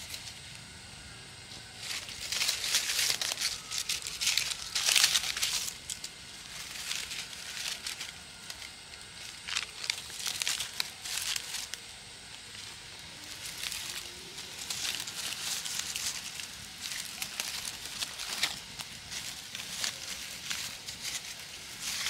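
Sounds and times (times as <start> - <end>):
dry leaves crinkling and rustling: 0.0 - 22.0.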